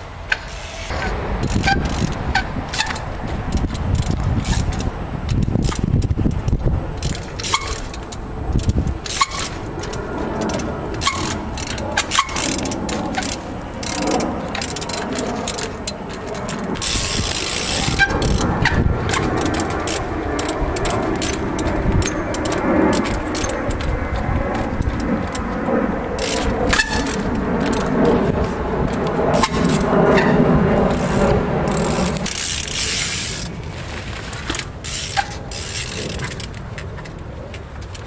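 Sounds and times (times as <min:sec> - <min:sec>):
bicycle freewheel ratchet clicking: 0:00.3 - 0:33.6, 0:34.4 - 0:37.2.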